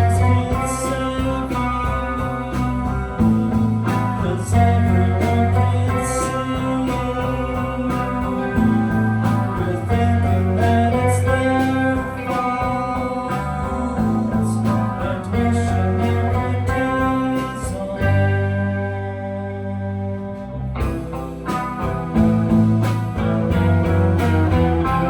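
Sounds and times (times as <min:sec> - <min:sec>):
bass line: 0:00.0 - 0:25.0
electric guitar chords: 0:00.0 - 0:25.0
live band music: 0:00.0 - 0:25.0.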